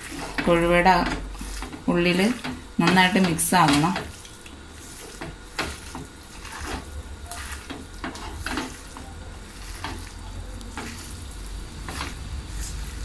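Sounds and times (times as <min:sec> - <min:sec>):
hands squishing food mixture: 0:00.0 - 0:13.0.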